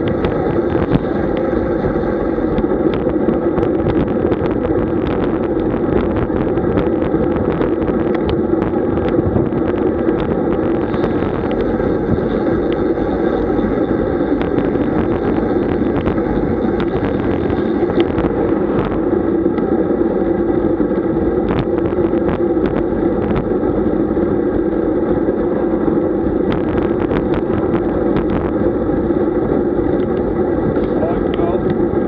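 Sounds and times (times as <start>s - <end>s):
wind and road rush: 0.0s - 32.0s.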